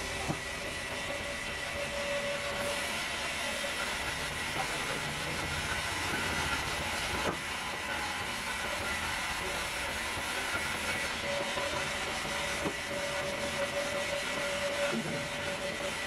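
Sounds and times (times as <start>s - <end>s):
band saw running: 0.0s - 16.0s.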